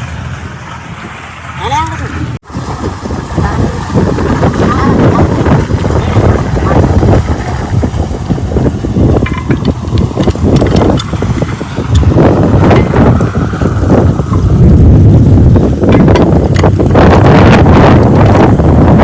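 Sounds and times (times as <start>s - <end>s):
diesel pump engine running: 0.0s - 19.0s.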